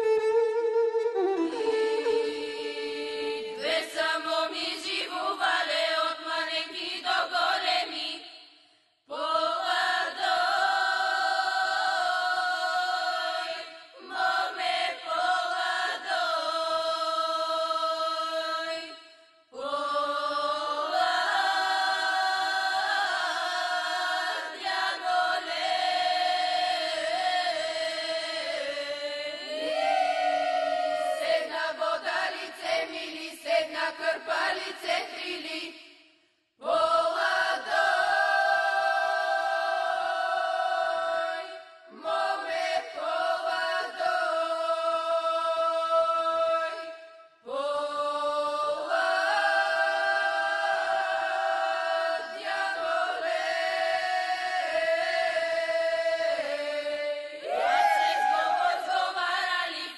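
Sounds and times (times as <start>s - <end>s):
women singing folk song: 1.6s - 8.4s, 9.1s - 36.0s, 36.6s - 59.9s.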